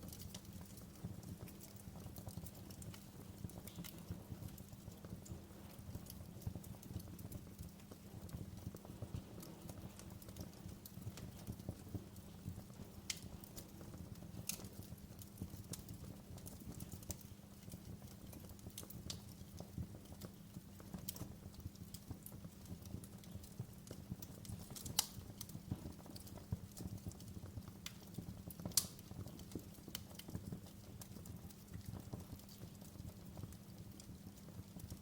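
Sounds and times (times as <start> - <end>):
fire low rumble: 0.0 - 35.0
wood fire popping and snapping: 0.0 - 35.0.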